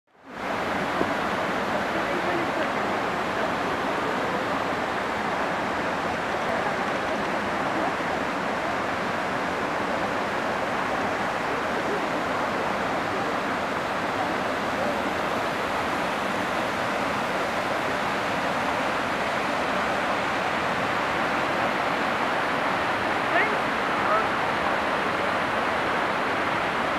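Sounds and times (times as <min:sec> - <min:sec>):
waterfall rushing over stone: 0:00.1 - 0:26.9.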